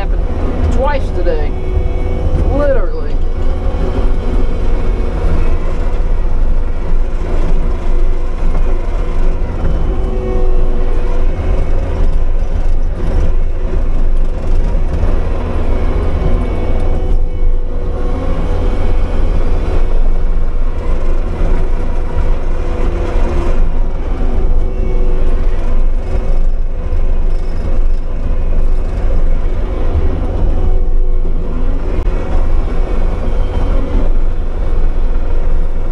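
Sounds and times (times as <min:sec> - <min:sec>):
diesel engine under load: 0:00.0 - 0:35.9.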